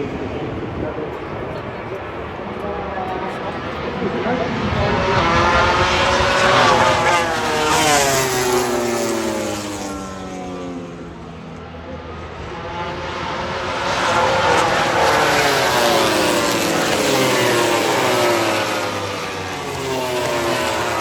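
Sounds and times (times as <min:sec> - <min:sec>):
racing motorcycle engines wailing: 0:00.0 - 0:21.0.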